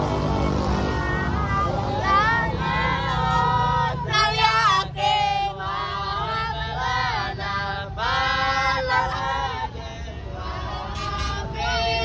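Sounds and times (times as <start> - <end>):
voices singing devotional song: 0.0 - 12.0.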